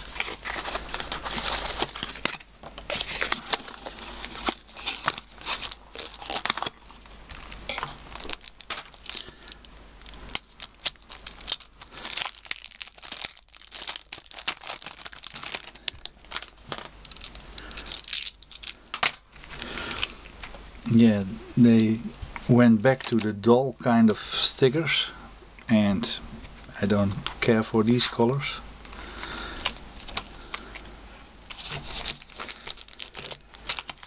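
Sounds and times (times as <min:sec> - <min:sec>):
plastic wrapping crinkling and tearing: 0:00.0 - 0:20.6, 0:22.4 - 0:23.4, 0:27.9 - 0:34.0.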